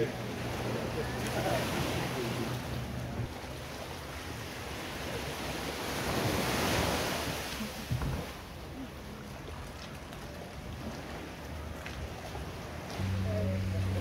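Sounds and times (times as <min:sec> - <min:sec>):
surf washing on shore: 0:00.0 - 0:14.0.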